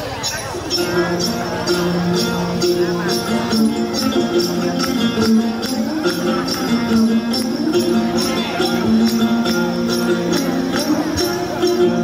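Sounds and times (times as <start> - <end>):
folk music on lutes: 0.0 - 12.0
jingling percussion: 0.0 - 12.0.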